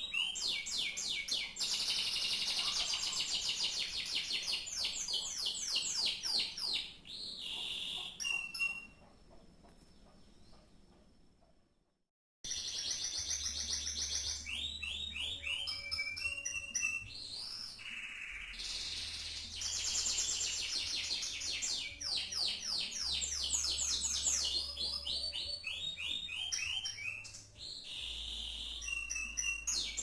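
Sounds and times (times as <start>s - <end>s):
canary singing trills: 0.0s - 9.3s, 12.5s - 30.0s.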